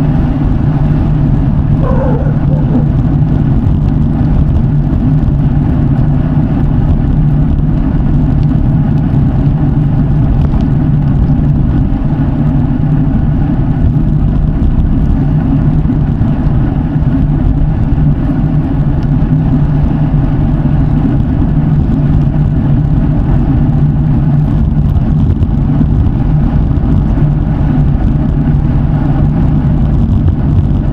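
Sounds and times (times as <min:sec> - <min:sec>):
bike tyres rolling on road: 0:00.0 - 0:30.9.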